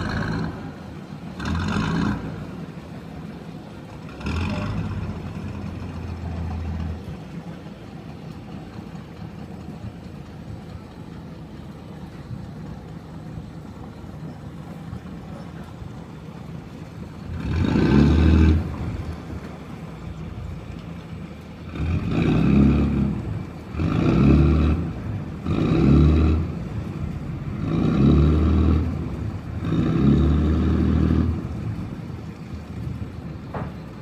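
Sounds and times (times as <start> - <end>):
diesel boat engine idling: 0.0 - 34.0.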